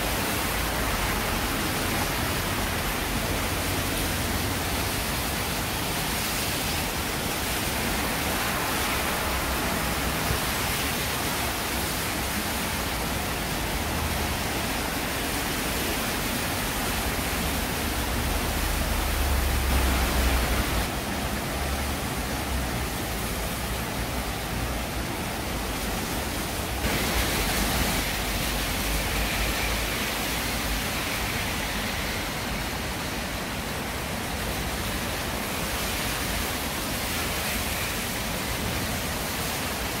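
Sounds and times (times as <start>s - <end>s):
heavy rain: 0.0s - 40.0s
rushing stream: 0.0s - 40.0s.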